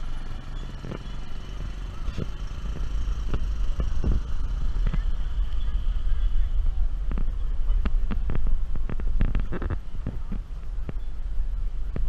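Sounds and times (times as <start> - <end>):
car rumbling on dirt road: 0.0 - 12.0.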